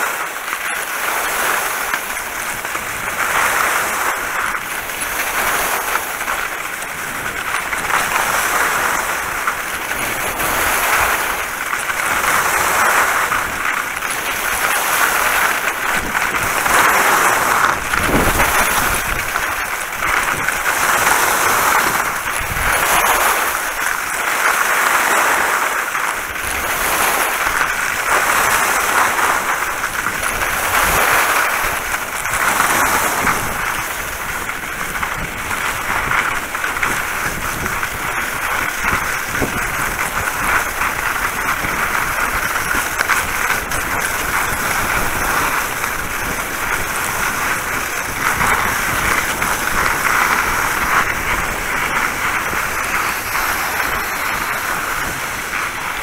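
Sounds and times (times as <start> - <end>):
skis scraping snow: 0.0 - 56.0
wind buffeting microphone: 1.2 - 24.1, 26.2 - 56.0.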